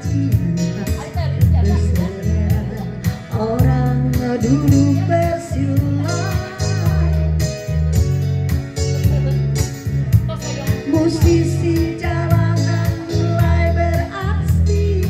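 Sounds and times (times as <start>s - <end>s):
woman singing pop ballad: 0.0s - 7.8s, 10.1s - 15.0s
electronic keyboard chords and bass: 0.0s - 15.0s.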